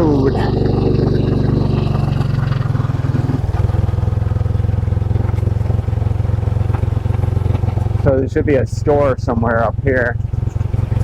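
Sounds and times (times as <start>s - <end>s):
motorcycle engine riding: 0.0s - 11.0s.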